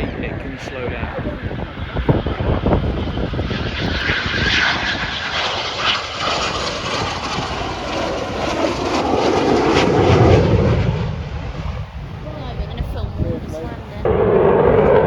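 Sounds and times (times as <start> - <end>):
aircraft engines flying overhead: 0.0 - 15.0.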